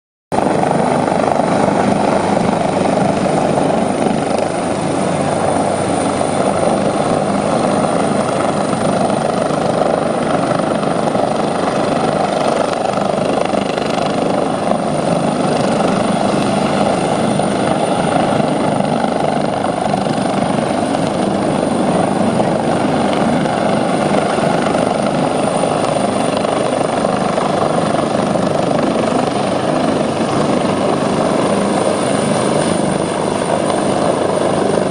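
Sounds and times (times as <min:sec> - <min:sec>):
helicopter rotor and engine: 0:00.3 - 0:34.9.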